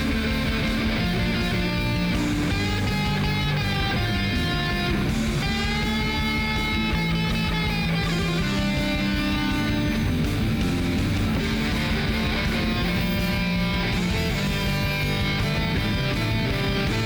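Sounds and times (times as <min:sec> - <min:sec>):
rock music with electric guitar: 0:00.0 - 0:17.0.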